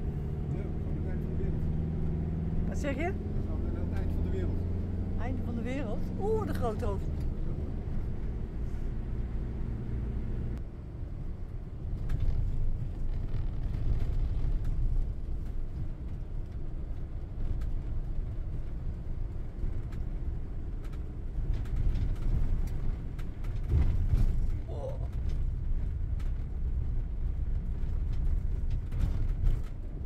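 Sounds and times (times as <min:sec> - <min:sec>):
engine hum: 0:00.0 - 0:30.0.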